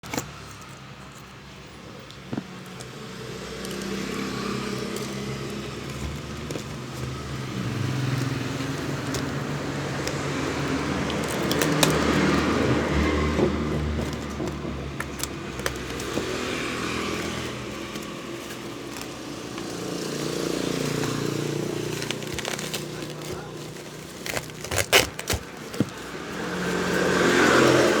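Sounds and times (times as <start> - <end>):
motor vehicle engines running: 0.0 - 28.0.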